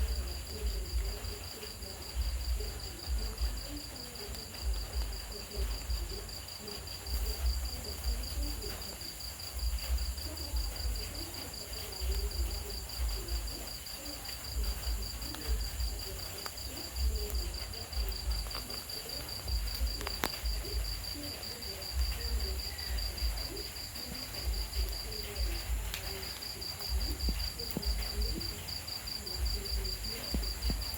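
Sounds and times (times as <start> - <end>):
crickets chirping: 0.0 - 30.9.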